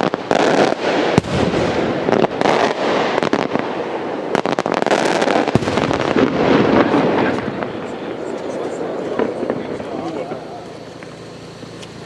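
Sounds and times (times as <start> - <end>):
dense crackle of firework pops: 0.0 - 12.0
sharp firework bangs: 0.0 - 12.0.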